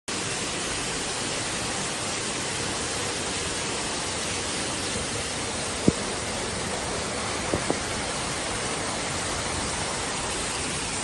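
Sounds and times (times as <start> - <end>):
heavy rain: 0.1 - 11.0
muddy runoff pouring: 0.1 - 11.0.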